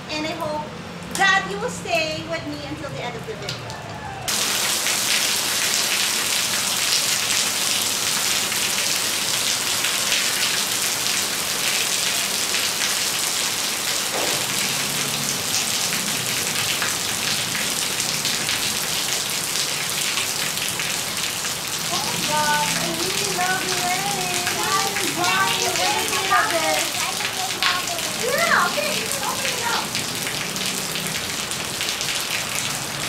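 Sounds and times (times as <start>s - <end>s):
rain falling on concrete: 0.0s - 33.0s.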